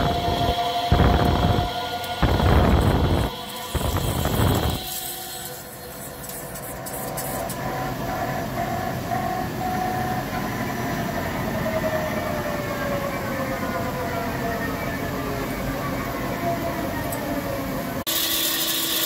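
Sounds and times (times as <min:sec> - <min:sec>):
lathe spindle humming and whining: 0:00.0 - 0:19.0.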